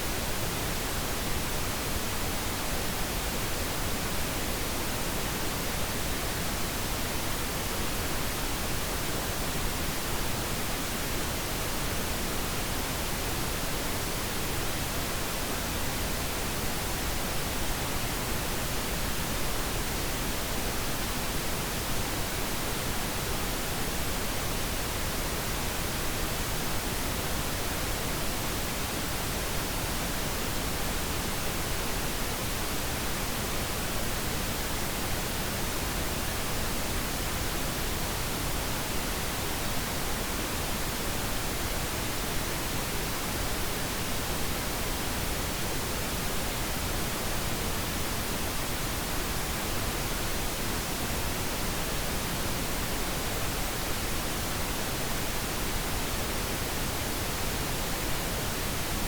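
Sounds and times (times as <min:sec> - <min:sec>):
steady pink noise hiss: 0:00.0 - 0:59.0.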